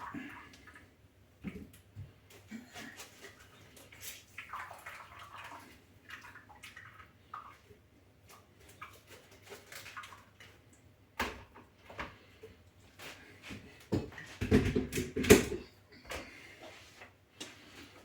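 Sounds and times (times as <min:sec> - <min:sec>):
liquid sloshing and dripping: 0:00.0 - 0:14.5.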